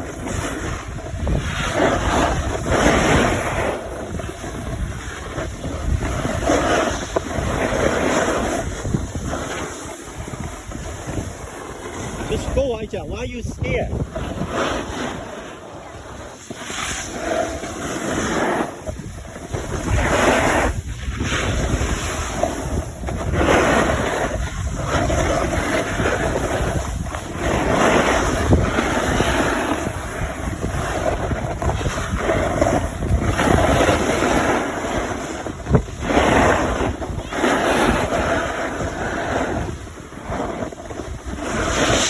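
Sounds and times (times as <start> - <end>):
steady rushing noise: 0.0 - 37.3, 38.1 - 42.0
wind buffeting microphone: 0.0 - 42.0.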